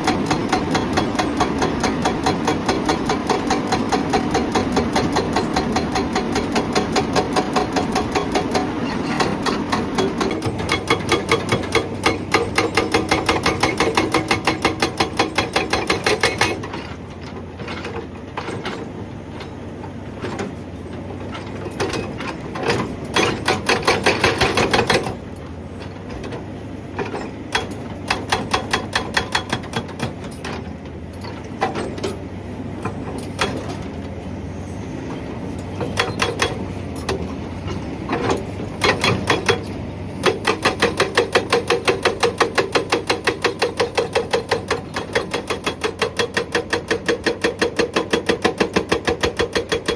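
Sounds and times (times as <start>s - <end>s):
hydraulic breaker hammering rock: 0.0s - 19.5s, 21.2s - 34.0s, 35.6s - 49.9s
excavator engine: 0.0s - 49.9s.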